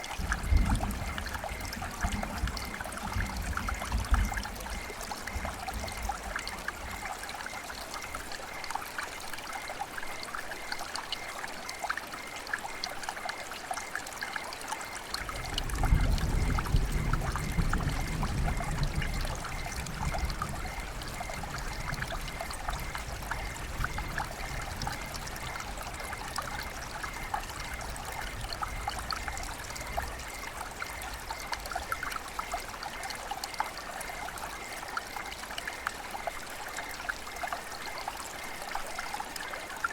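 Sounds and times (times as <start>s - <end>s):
river water flowing: 0.0s - 17.3s, 19.0s - 39.9s.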